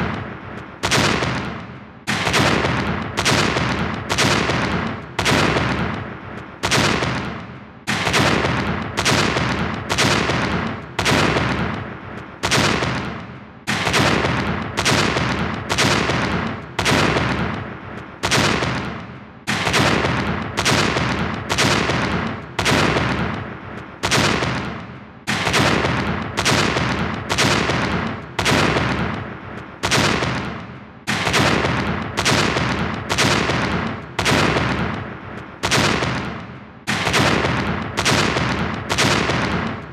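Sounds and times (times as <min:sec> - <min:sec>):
gunshot-like blast: 0:00.8 - 0:06.0, 0:06.6 - 0:11.8, 0:13.7 - 0:17.6, 0:18.2 - 0:23.4, 0:24.0 - 0:29.2, 0:29.8 - 0:35.0, 0:35.6 - 0:39.9.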